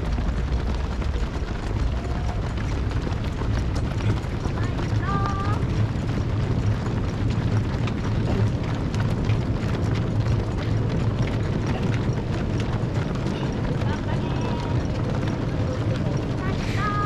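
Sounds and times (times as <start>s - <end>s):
constant low rumble: 0.0s - 17.0s
runners' footsteps on road: 0.0s - 17.0s.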